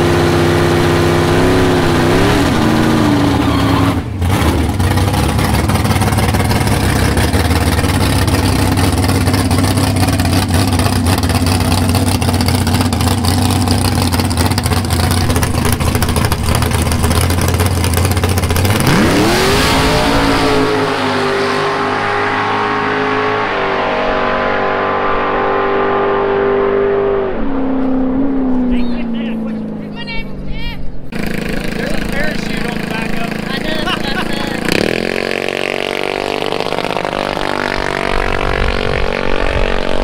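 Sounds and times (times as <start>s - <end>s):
drag car engine revving: 0.0s - 30.0s, 31.0s - 40.0s.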